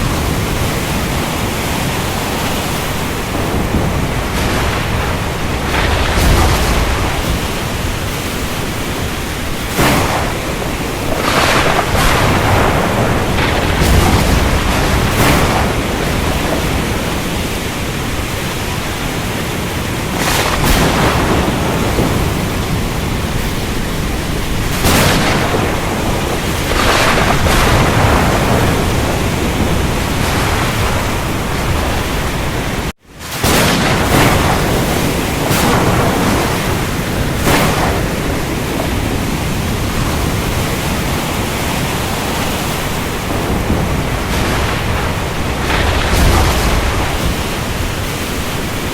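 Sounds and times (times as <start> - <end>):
rain: 0.0 - 48.9
surf waves surging: 0.0 - 48.9
wind: 0.0 - 48.9.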